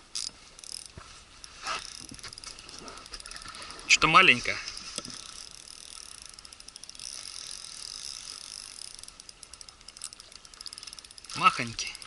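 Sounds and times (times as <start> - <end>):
fishing reel clicking: 0.1 - 12.0.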